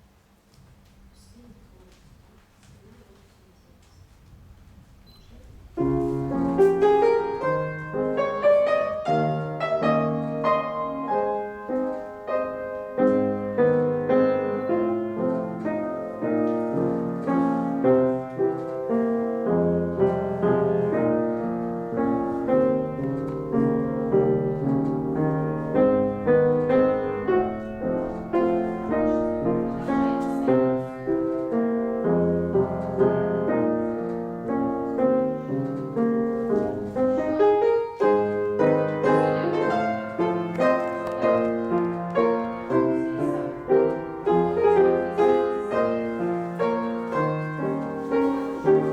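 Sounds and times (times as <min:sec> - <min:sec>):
piano music: 0:05.6 - 0:48.9.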